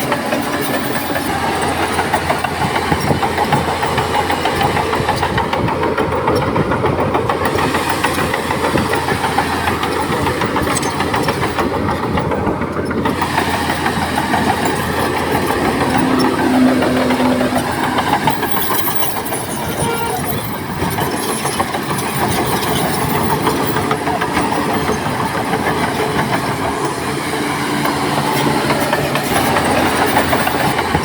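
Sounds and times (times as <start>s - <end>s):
heavy diesel machinery running: 0.0s - 31.0s
rattling clatter: 0.0s - 31.0s.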